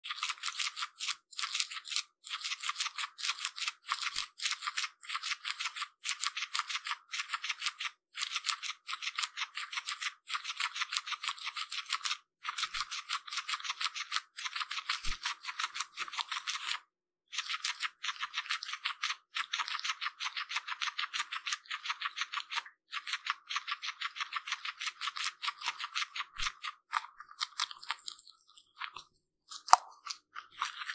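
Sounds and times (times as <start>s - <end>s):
guinea pig chewing grass: 0.0s - 30.9s.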